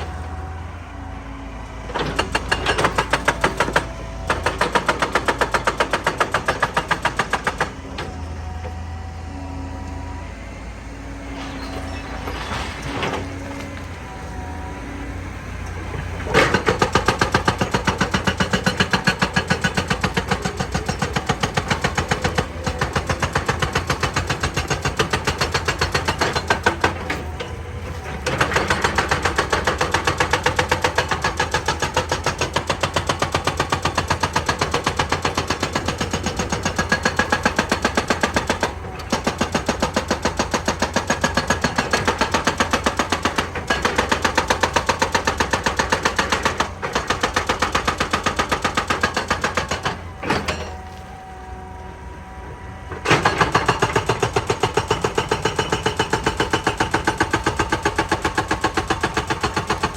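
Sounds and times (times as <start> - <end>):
diesel engine running: 0.0 - 59.9
hydraulic breaker hammering rock: 1.9 - 10.0, 11.2 - 51.0, 52.8 - 59.9.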